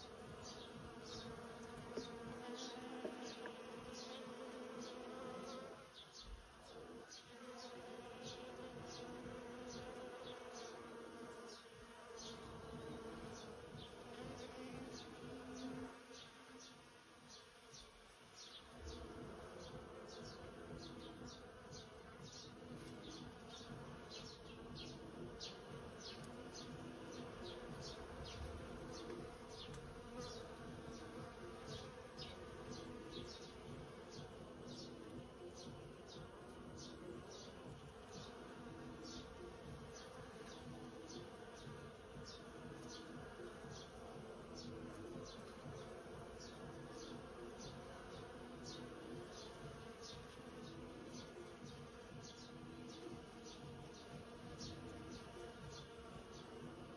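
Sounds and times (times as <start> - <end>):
bees buzzing: 0.0 - 56.9.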